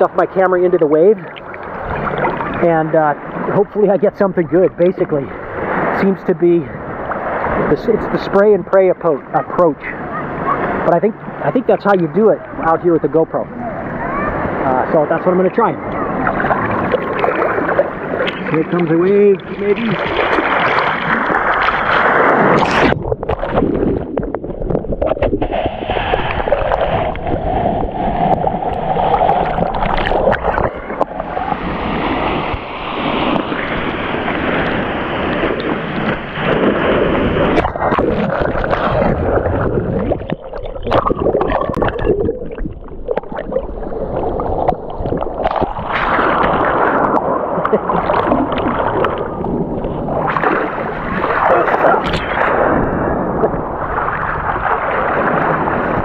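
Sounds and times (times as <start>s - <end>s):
waves breaking and rushing water: 0.0s - 56.0s.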